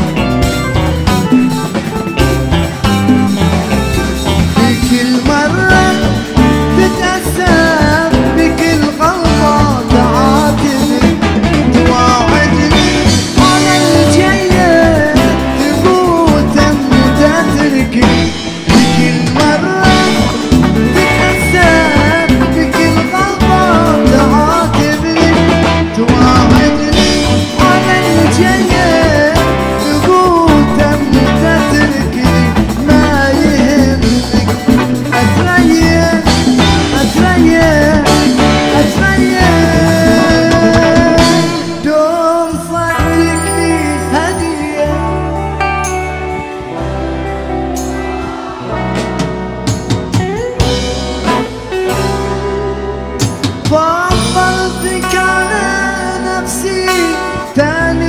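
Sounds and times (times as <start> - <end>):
live band instrumental music: 0.0 - 58.0.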